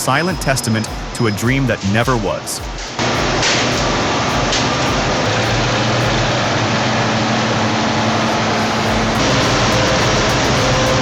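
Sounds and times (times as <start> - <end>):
heavy diesel machine running: 0.0 - 11.0
steady hum: 0.0 - 11.0.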